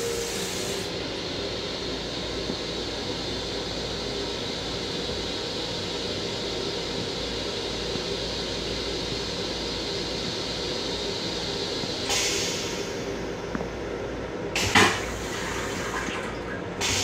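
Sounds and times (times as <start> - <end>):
train low uneven rumble: 0.0 - 17.0.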